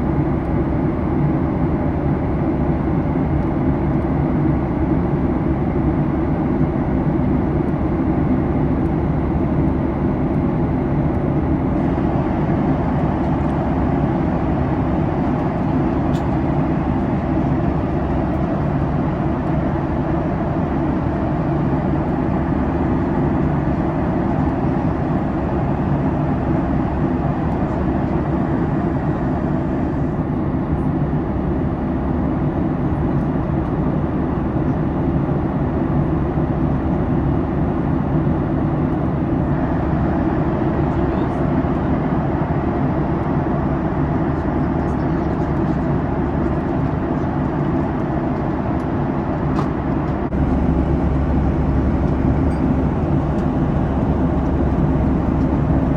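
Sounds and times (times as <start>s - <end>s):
airplane cabin engine drone: 0.0s - 55.9s.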